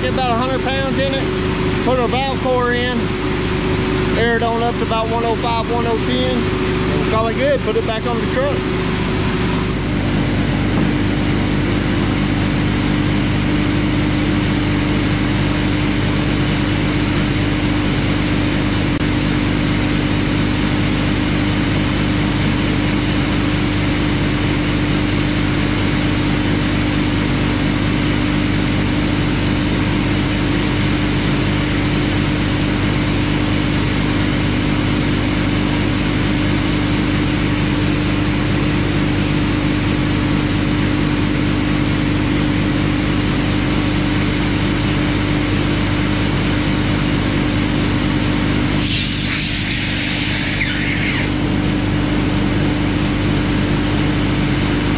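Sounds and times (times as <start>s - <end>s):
air compressor humming: 0.0s - 54.9s.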